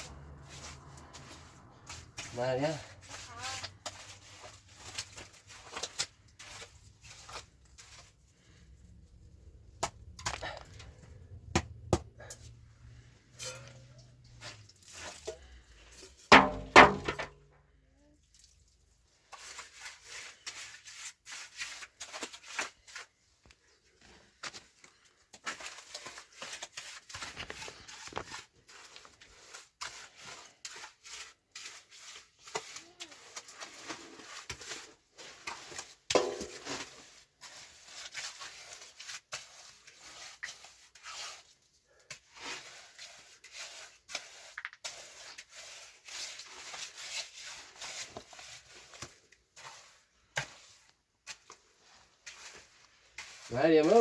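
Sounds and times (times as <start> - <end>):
hand tool scraping cement: 0.0 - 17.4, 19.2 - 54.0.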